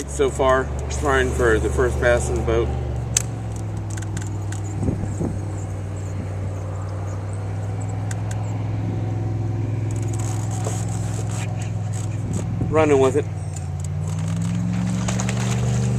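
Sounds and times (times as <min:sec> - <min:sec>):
low motor hum: 0:00.0 - 0:15.9.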